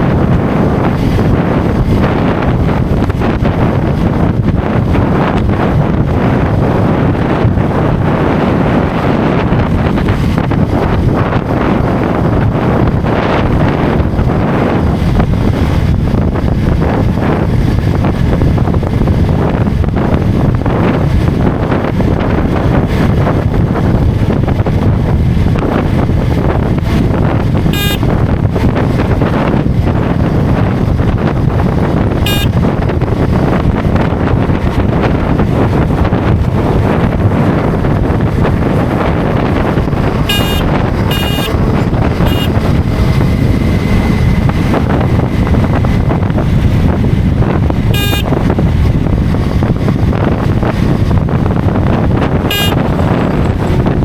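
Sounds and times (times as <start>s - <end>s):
motorcycle engine: 0.0s - 54.0s
road noise: 0.0s - 54.0s
wind buffeting microphone: 0.0s - 54.0s.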